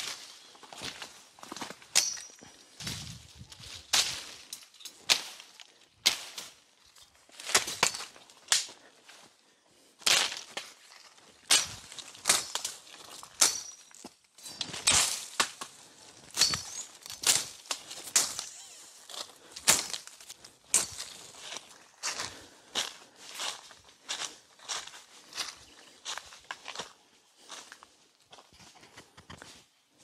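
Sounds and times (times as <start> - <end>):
footsteps crunching dry leaves: 0.0 - 13.6, 14.5 - 28.0.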